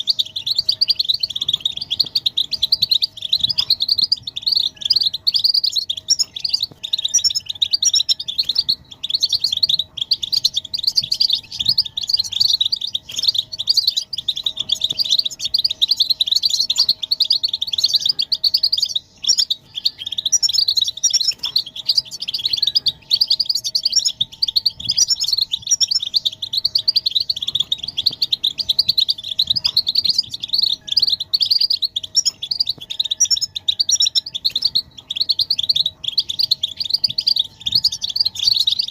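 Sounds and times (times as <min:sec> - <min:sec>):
faint steady hum: 0:00.0 - 0:38.9
finches twittering and chirping: 0:00.0 - 0:38.9.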